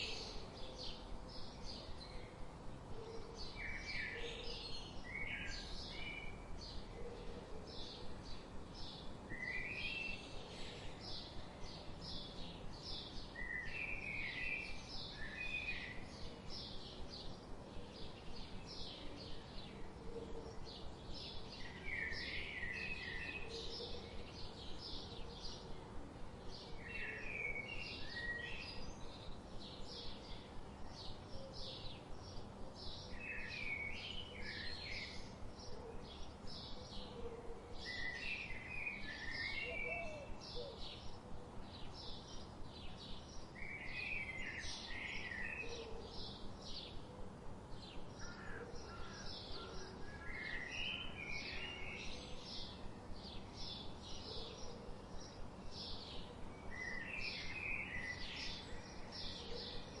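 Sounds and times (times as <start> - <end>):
background hiss: 0.0 - 60.0
bird with lower busier phrases: 0.0 - 60.0.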